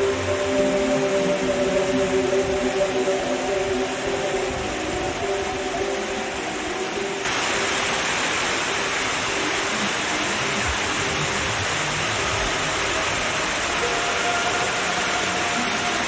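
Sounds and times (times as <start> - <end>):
soft meditation music: 0.0 - 16.0
waterfall splashing over rock: 0.0 - 16.0.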